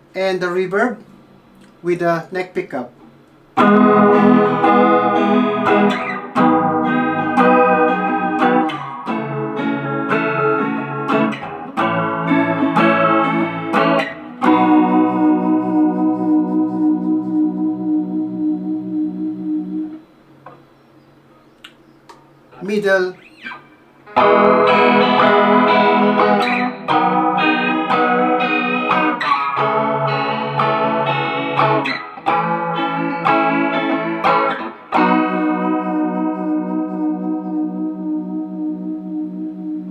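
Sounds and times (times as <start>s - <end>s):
clean electric guitar chords: 3.5s - 20.8s, 22.5s - 39.9s.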